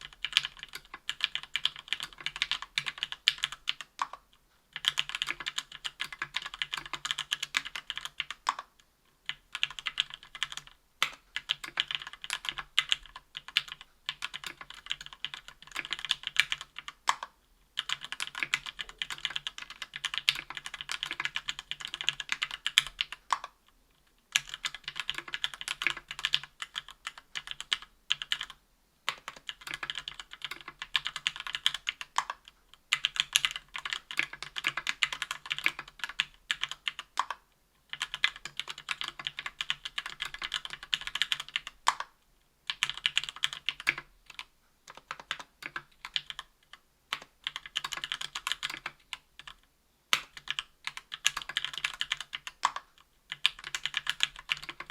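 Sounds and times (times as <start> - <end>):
mechanical keyboard typing: 0.0 - 8.7, 9.3 - 23.6, 24.3 - 54.9.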